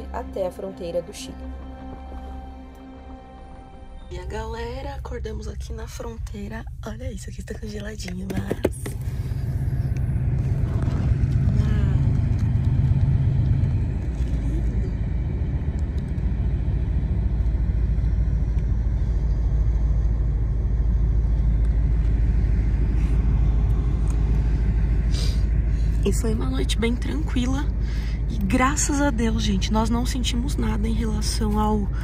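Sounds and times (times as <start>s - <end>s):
loud low rumble: 0.0s - 32.0s.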